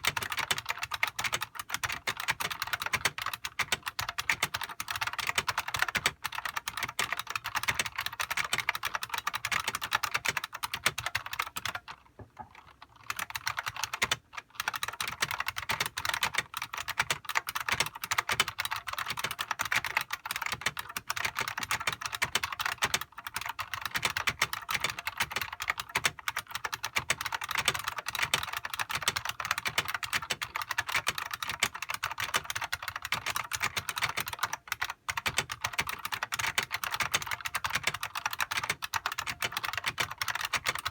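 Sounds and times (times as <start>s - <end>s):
clicky keyboard typing: 0.0s - 40.9s.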